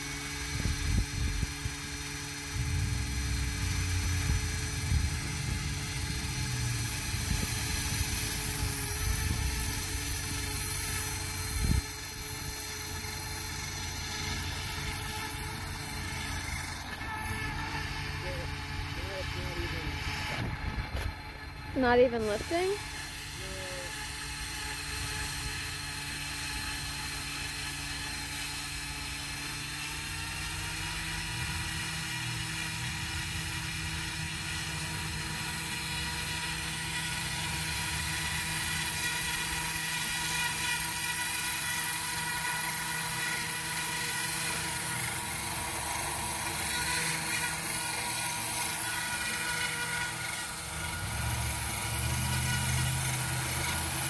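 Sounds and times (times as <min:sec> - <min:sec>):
model helicopter motor and rotor: 0:00.0 - 0:54.0.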